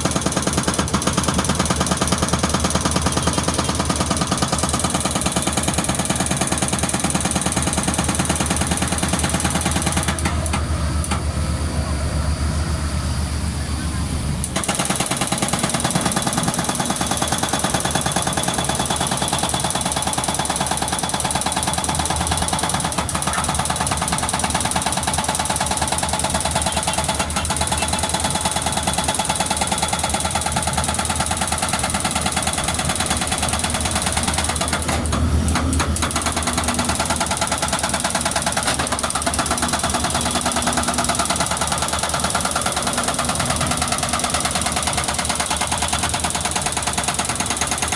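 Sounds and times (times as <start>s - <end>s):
hydraulic breaker hammering concrete: 0.0s - 11.3s, 14.4s - 47.9s
diesel engine running: 0.0s - 47.9s.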